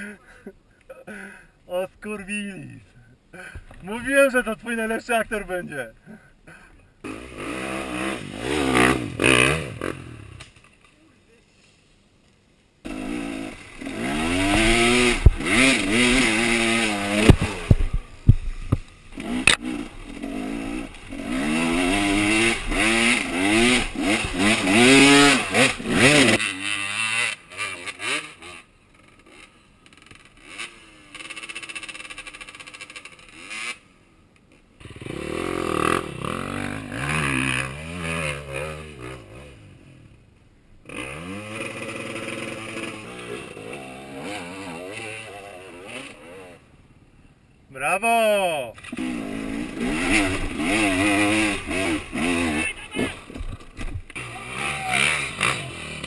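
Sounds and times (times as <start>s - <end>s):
dirt bike engines revving: 2.9s - 10.8s, 12.8s - 34.0s, 34.8s - 40.2s, 40.8s - 46.9s, 47.8s - 56.0s.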